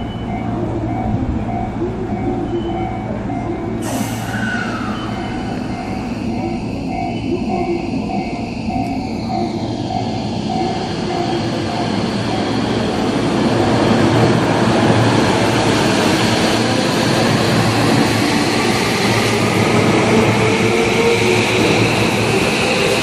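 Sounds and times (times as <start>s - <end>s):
electric train running on track: 0.0s - 23.0s.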